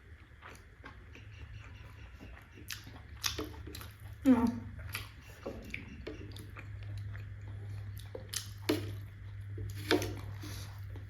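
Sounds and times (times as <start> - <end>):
steady low hum: 0.0 - 11.0
wet chewing sounds: 0.0 - 11.0.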